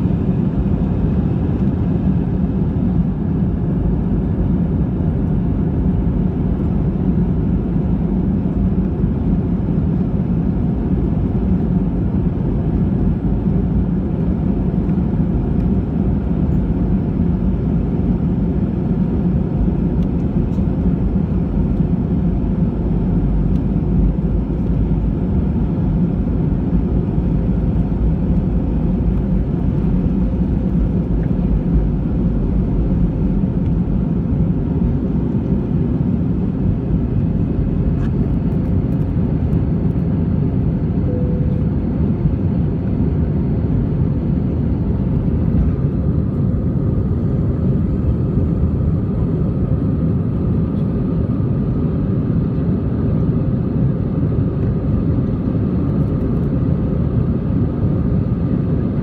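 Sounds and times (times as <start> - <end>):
aircraft cabin rumble: 0.0 - 59.0
jet engines at low thrust: 0.0 - 59.0.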